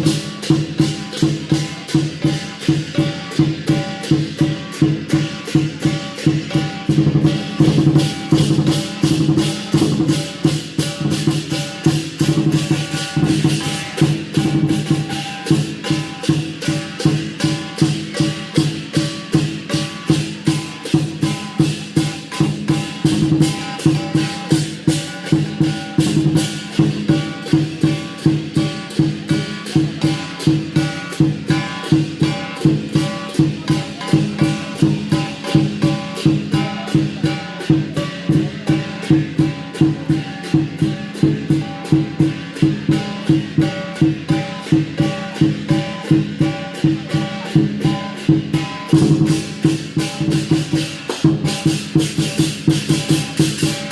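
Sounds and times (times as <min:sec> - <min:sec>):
cymbals crashing: 0:00.0 - 0:53.9
drum beating: 0:00.0 - 0:53.9.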